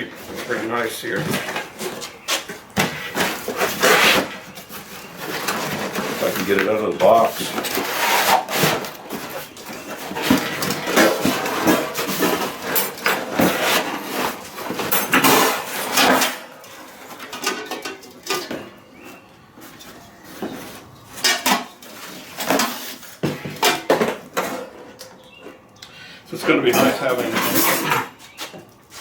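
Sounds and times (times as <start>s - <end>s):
metal grill parts clanking: 0.0s - 18.8s, 21.1s - 25.2s, 26.4s - 28.5s.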